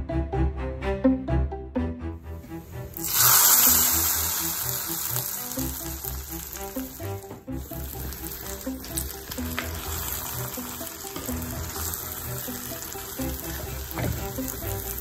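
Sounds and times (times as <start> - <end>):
background music melody: 0.0 - 15.0
hot oil sizzling: 3.0 - 15.0.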